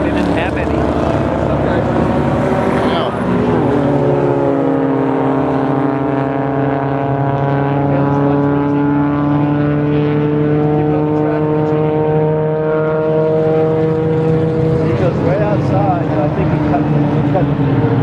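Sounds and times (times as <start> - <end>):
race car engines: 0.0 - 18.0.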